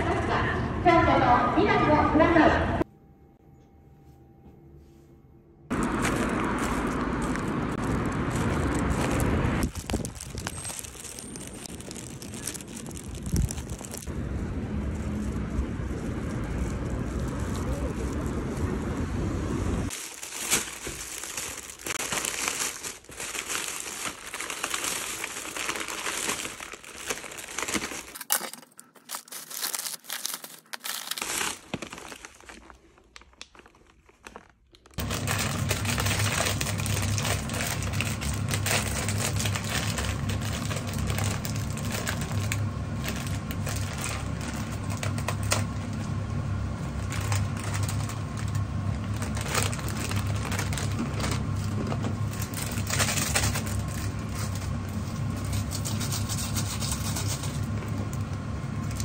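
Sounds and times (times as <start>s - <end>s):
plastic bag rustling: 5.7s - 19.1s, 19.8s - 59.0s.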